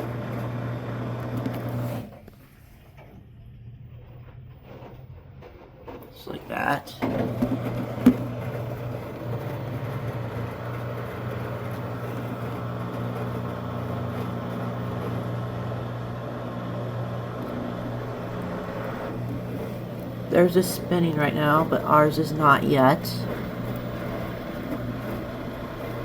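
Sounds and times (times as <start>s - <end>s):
washing machine spinning: 0.0s - 26.0s.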